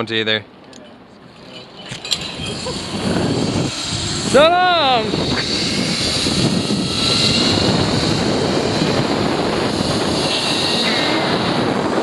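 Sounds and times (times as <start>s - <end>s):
pulleys whirring on cable: 1.3s - 12.0s
wind on microphone: 1.6s - 12.0s.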